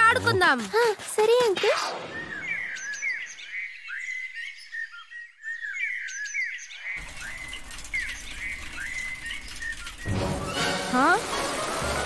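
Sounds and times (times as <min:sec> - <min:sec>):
birds chirping: 0:00.0 - 0:11.4.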